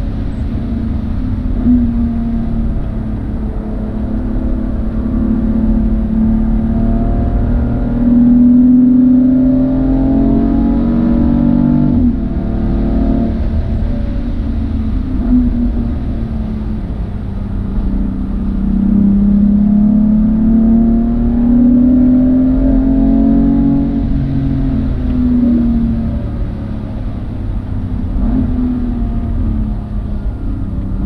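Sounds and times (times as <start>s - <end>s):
road and wind rumble: 0.0s - 31.0s.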